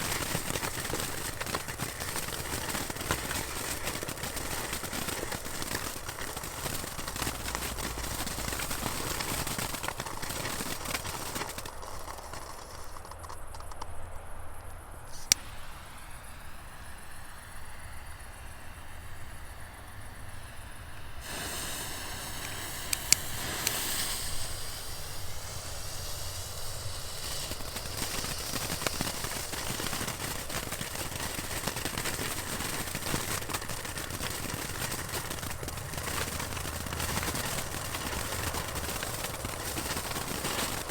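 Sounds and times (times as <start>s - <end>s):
sharp firework cracks: 0.0s - 14.0s, 21.1s - 40.9s
fireworks hissing and crackling: 0.0s - 40.9s.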